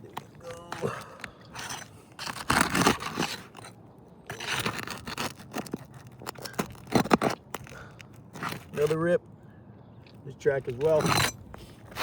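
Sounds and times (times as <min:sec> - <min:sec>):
shingles scraping and crackling: 0:00.1 - 0:09.2, 0:10.7 - 0:12.0.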